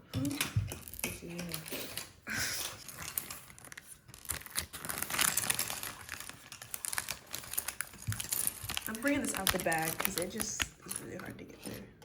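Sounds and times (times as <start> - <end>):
plastic bag crinkling: 0.2 - 11.8.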